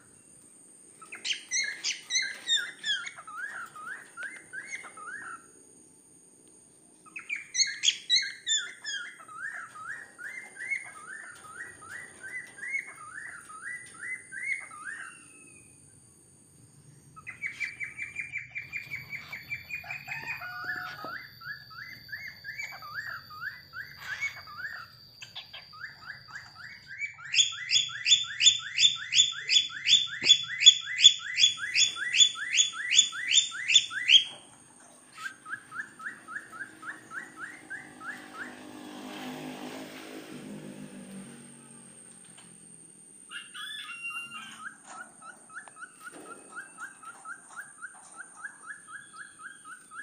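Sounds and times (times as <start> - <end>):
cockatiel whistling: 1.0 - 5.5, 7.0 - 15.8, 17.2 - 34.4, 35.1 - 38.7, 43.3 - 50.0.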